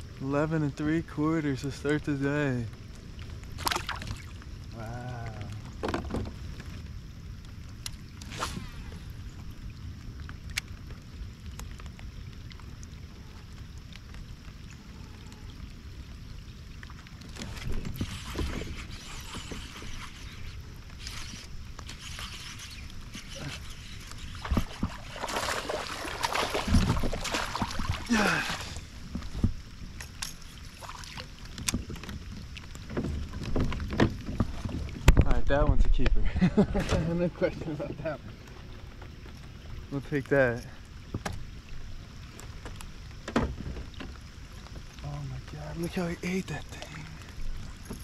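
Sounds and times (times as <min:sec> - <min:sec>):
wind rumble on microphone: 0:00.0 - 0:48.0
water splashing: 0:01.1 - 0:06.8, 0:07.7 - 0:35.7, 0:36.7 - 0:48.0.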